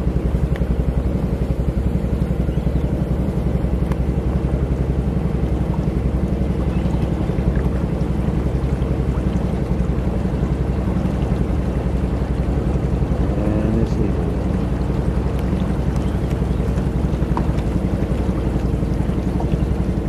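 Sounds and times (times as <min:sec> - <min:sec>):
small boat engine pulsing: 0:00.0 - 0:20.0.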